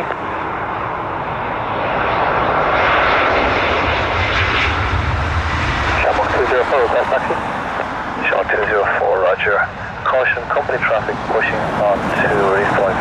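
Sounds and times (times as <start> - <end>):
deep rumble: 0.0 - 13.0
jet engines rushing: 0.0 - 13.0.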